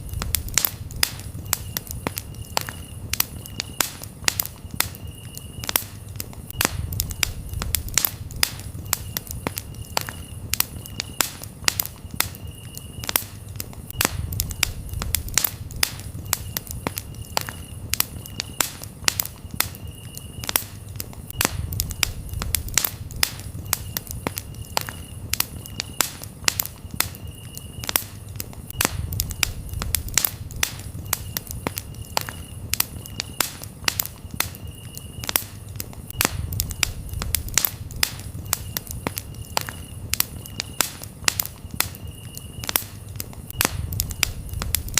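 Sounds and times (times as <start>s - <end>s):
campfire crackling and popping: 0.0s - 44.9s
crickets chirping: 0.0s - 44.9s.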